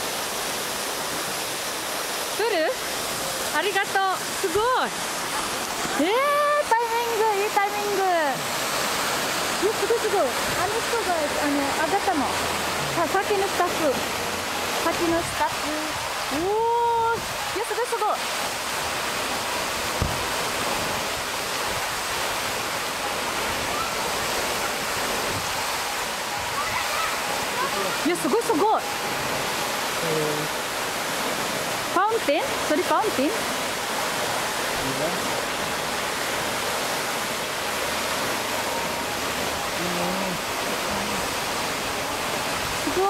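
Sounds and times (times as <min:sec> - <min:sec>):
fountain jet rushing and splashing: 0:00.0 - 0:43.0.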